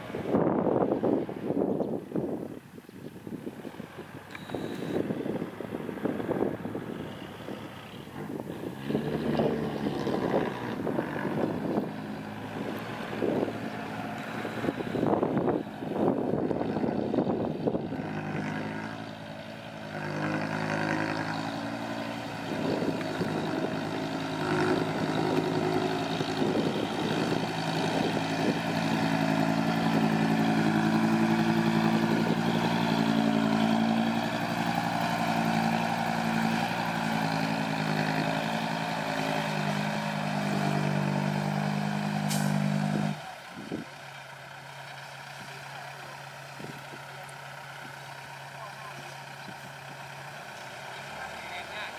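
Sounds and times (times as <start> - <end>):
diesel engine running hard: 4.0 - 51.9.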